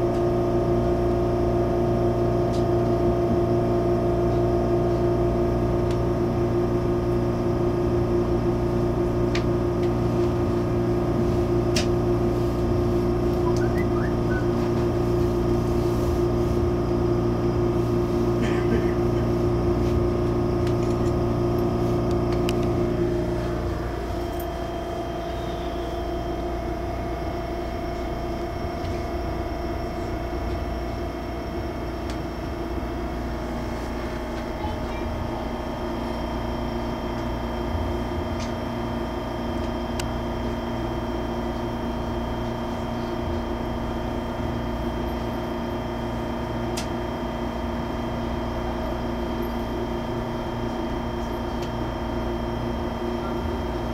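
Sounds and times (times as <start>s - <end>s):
train cabin mechanical drone: 0.0s - 53.9s.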